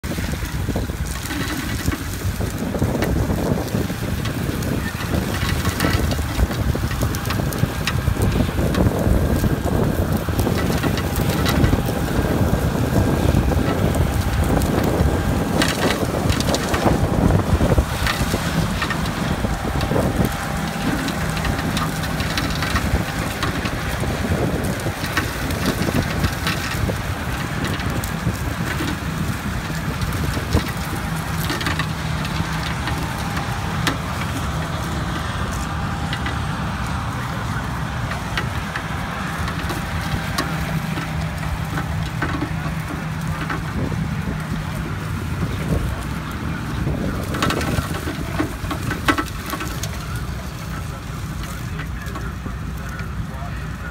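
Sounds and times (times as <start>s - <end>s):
vehicle rumbling over stubble: 0.0s - 53.9s.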